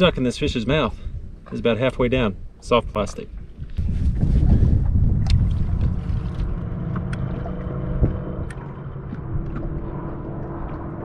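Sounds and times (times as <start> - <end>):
water against boat: 0.0 - 11.0
wind on microphone: 2.2 - 11.0.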